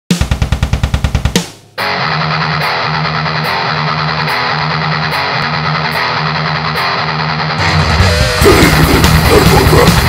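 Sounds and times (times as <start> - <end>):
heavy metal electric guitar riff: 1.8 - 10.0.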